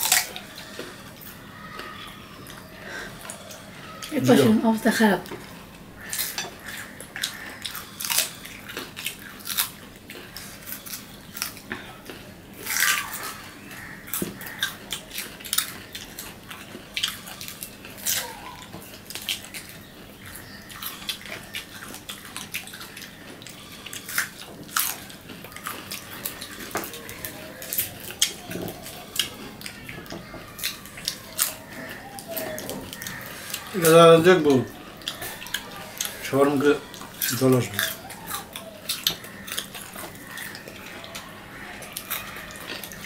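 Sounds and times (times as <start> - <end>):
crunchy fruit chewing: 0.0 - 43.0.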